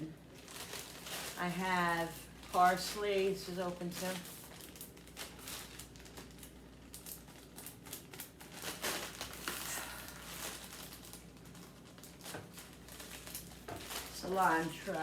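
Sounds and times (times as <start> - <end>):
plastic packaging crinkling: 0.2 - 15.0.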